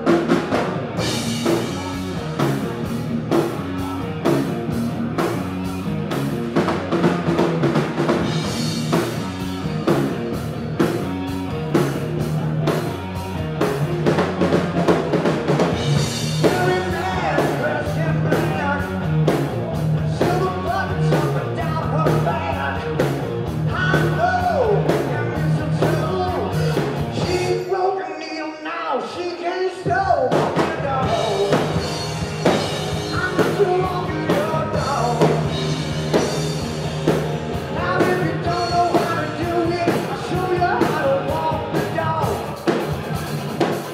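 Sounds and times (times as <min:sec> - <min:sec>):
drum kit beat: 0:00.0 - 0:27.6, 0:30.3 - 0:43.9
electric bass: 0:00.0 - 0:27.6, 0:30.4 - 0:43.9
electric guitar: 0:00.0 - 0:27.7, 0:29.9 - 0:43.9.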